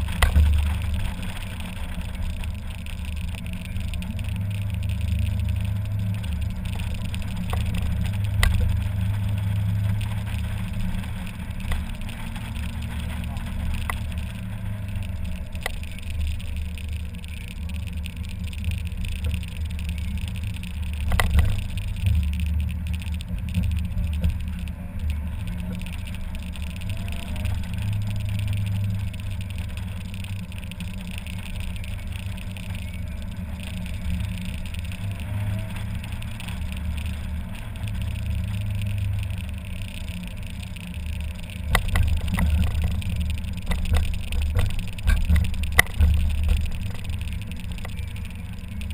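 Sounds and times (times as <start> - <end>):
open car driving rumble: 0.0 - 48.9.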